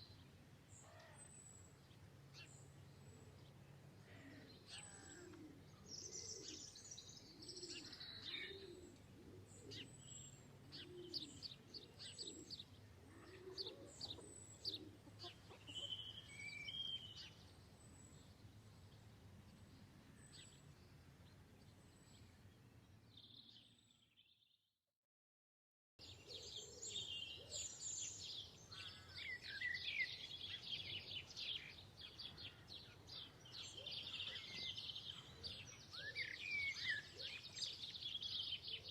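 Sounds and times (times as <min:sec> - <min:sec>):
small birds chirping: 0:00.0 - 0:24.4, 0:26.0 - 0:38.9.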